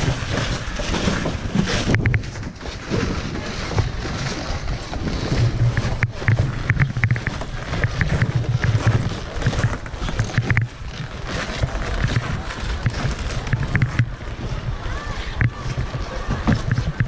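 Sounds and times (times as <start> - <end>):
footsteps: 0.0 - 17.0
wind buffeting microphone: 0.0 - 17.0.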